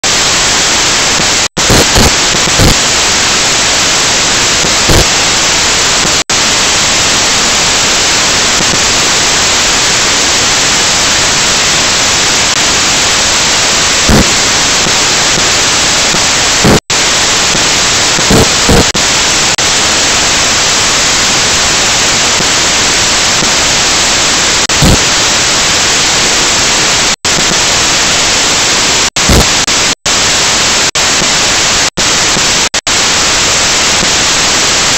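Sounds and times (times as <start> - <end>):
static hiss: 0.0 - 34.9.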